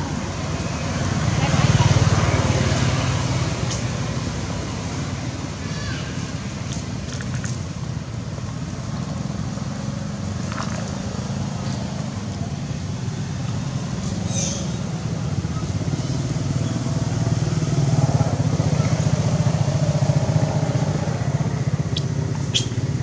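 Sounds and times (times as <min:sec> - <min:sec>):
outdoor background noise: 0:00.0 - 0:23.0
vehicle engine humming: 0:00.0 - 0:23.0.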